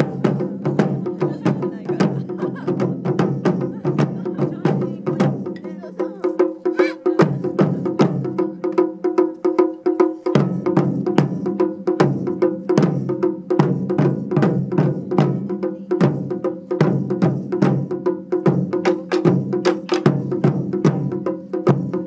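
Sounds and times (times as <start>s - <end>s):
deep drum strokes: 0.0s - 22.0s.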